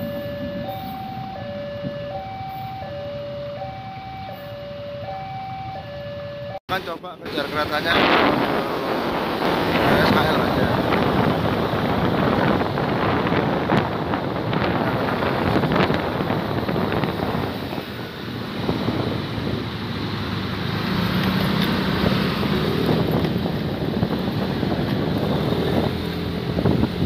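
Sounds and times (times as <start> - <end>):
wind buffeting microphone: 0.0 - 3.4, 7.4 - 27.0
motorcycle engine and road noise: 0.0 - 27.0.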